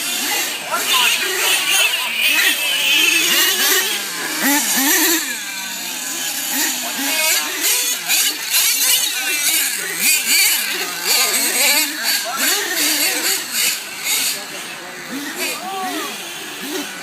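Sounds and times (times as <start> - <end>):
monster truck engines revving: 0.0 - 17.0.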